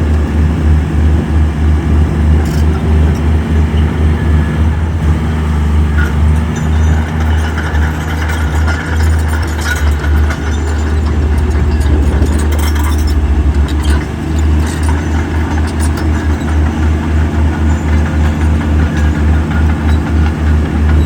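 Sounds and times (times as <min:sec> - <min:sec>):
heavy diesel engine throbbing: 0:00.0 - 0:21.0.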